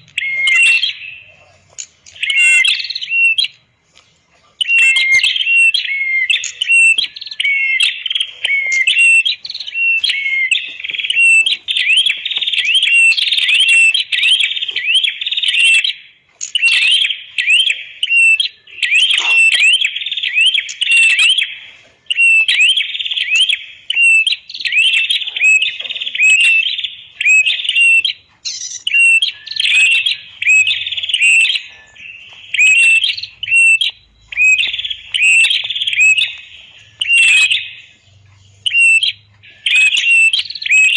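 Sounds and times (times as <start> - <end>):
bird chirping sharply: 0.0 - 1.5, 2.1 - 3.6, 4.6 - 40.9.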